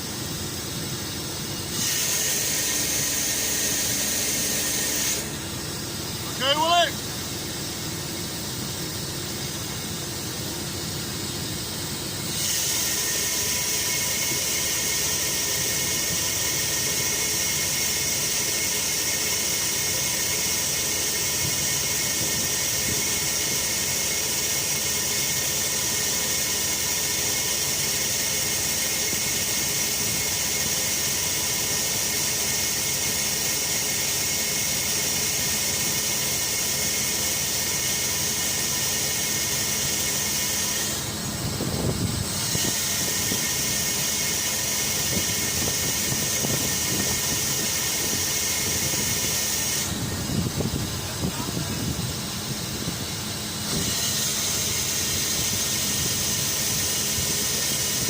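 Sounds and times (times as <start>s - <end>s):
hydraulic hiss with high whine: 0.0s - 58.0s.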